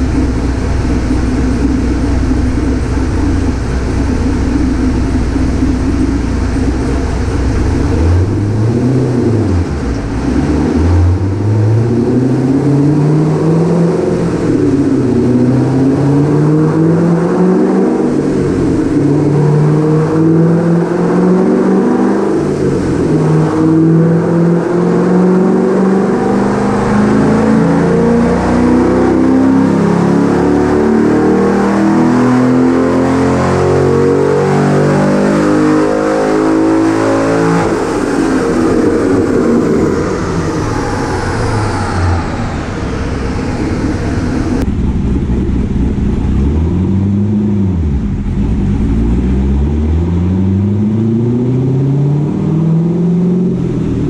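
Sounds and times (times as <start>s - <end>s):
car engine revving under load: 0.0s - 54.0s
high whine falling in pitch: 0.0s - 54.0s.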